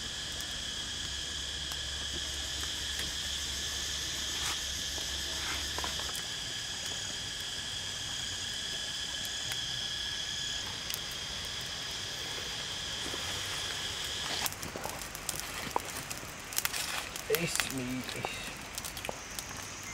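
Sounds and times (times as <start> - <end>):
insects chorus: 0.0 - 19.9.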